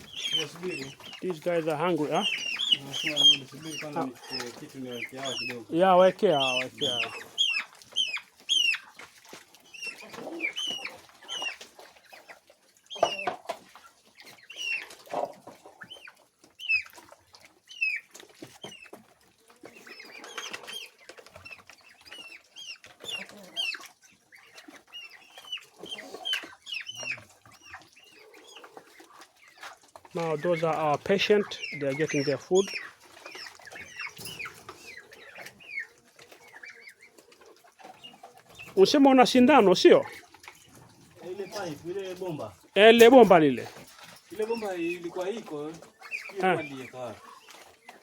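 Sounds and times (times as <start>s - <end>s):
chickens clucking: 0.0s - 48.0s
chickens peeping: 0.0s - 48.0s.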